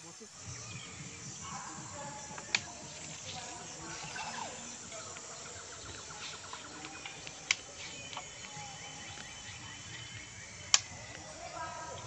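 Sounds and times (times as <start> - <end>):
insect ticking: 0.0 - 12.0
thin high bird calls: 0.4 - 12.0.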